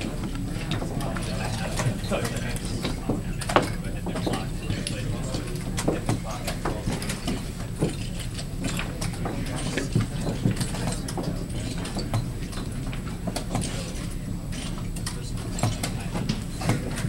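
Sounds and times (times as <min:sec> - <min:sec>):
low hall hum: 0:00.0 - 0:17.0.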